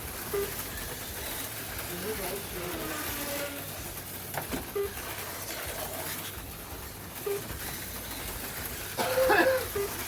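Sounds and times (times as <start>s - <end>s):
slot cars whirring: 0.0s - 10.0s.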